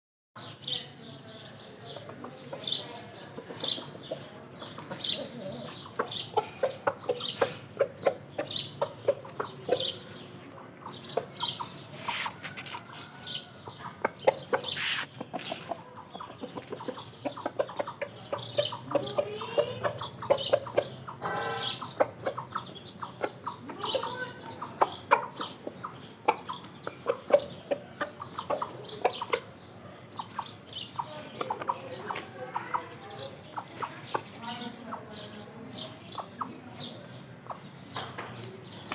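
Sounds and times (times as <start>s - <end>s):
chickens clucking: 1.8s - 38.9s.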